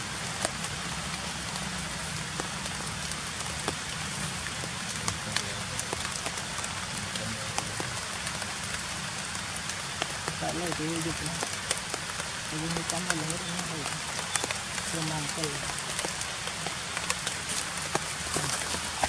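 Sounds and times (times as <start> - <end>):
rain falling on leaves: 0.0 - 19.0.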